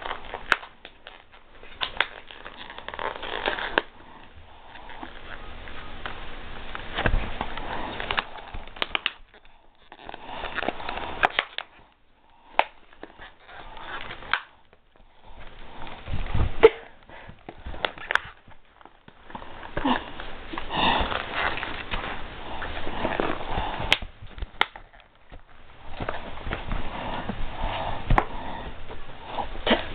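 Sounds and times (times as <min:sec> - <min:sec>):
fabric rustling: 0:00.0 - 0:29.9
puppy sniffing and snuffling: 0:01.2 - 0:29.9.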